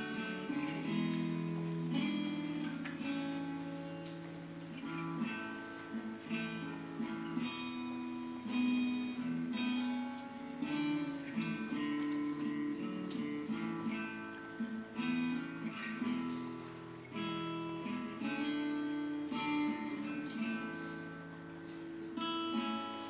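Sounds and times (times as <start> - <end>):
acoustic guitar plucked: 0.0 - 23.0.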